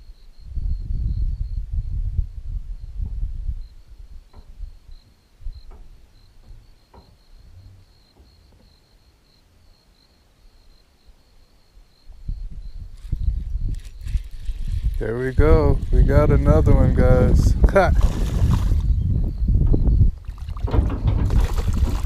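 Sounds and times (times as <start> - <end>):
wind rumbling on microphone: 0.0 - 8.4, 12.0 - 22.0
faint high insect trill: 0.0 - 17.4, 18.1 - 21.7.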